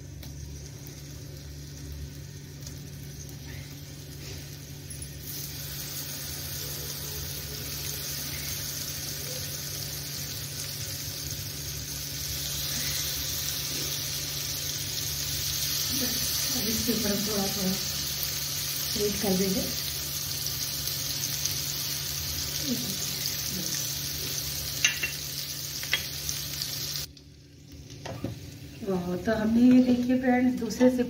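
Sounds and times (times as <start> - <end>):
vegetable slices sizzling in oil: 0.0 - 27.1.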